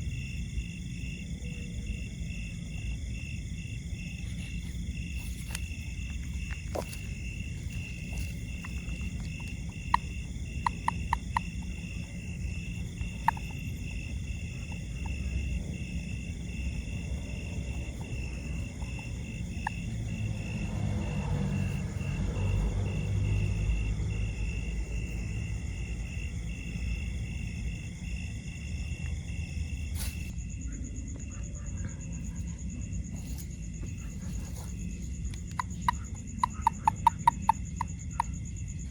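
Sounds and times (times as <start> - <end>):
insects calling: 0.0 - 38.9.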